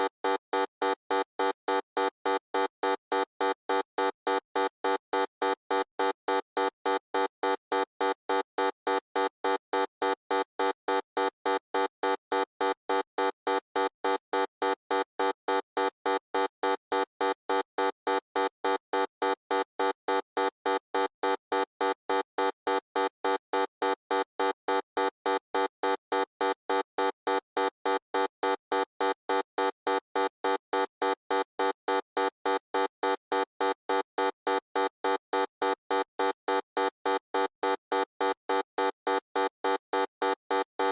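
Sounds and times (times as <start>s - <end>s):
electronic buzzer beeping: 0.0s - 40.9s.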